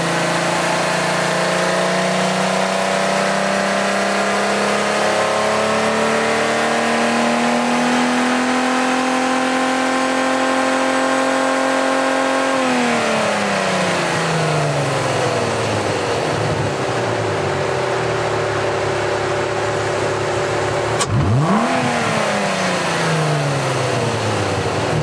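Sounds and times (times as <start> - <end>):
car engine revving and idling: 0.0 - 25.0.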